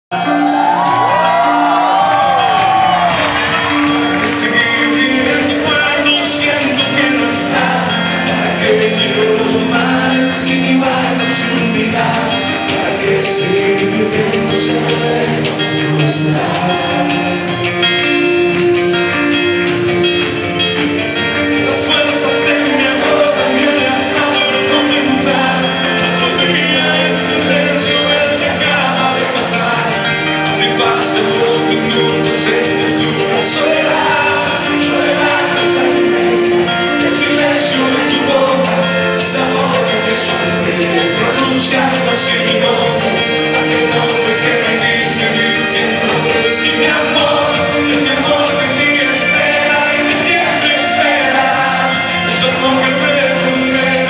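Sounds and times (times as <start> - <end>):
live band with guitar: 0.1 - 54.0
person singing: 0.1 - 54.0.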